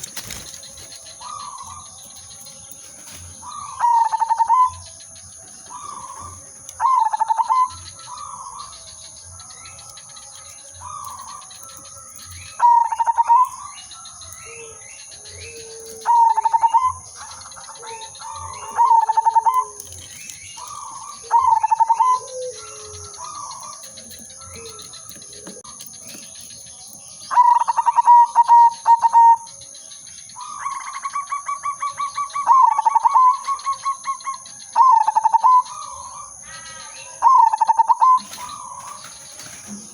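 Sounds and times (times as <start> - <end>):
doves cooing: 0.0 - 29.6, 30.3 - 39.9.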